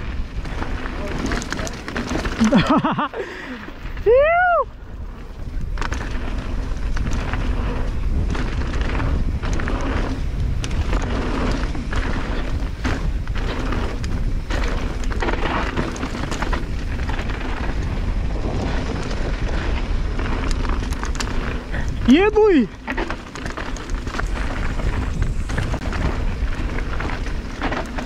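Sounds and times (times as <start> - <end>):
bike clicks and rattles: 0.0 - 28.0
tyres rolling on loose ground: 0.0 - 28.0
wind buffeting microphone: 0.0 - 28.0.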